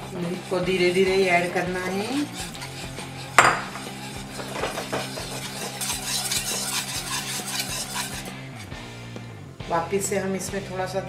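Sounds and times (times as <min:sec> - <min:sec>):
whisk clinking on pan: 0:00.0 - 0:08.9
whisk beating sauce: 0:00.0 - 0:09.4.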